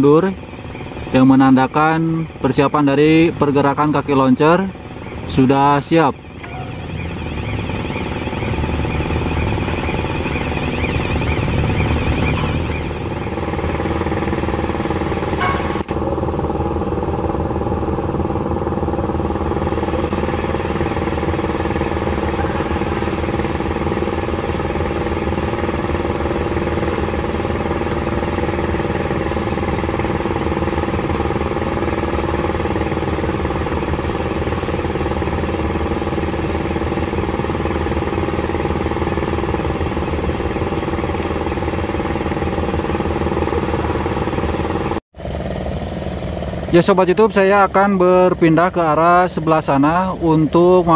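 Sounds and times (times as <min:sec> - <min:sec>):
engine drone: 0:00.0 - 0:50.9
wavering high whine: 0:00.0 - 0:50.9.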